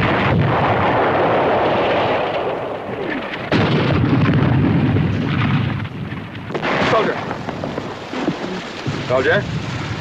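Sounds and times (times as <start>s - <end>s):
rumbling explosions: 0.0s - 10.0s.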